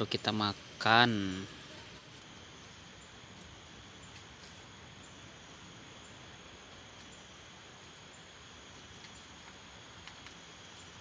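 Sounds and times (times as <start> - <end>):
faint insect drone: 0.0 - 11.0
steady hiss: 0.0 - 11.0.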